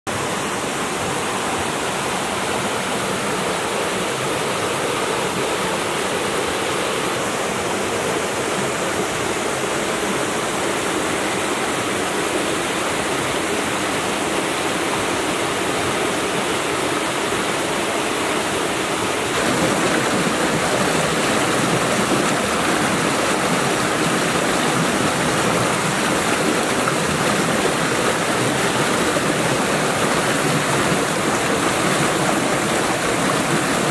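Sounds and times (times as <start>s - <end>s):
stream flowing over rocks: 0.1s - 33.9s.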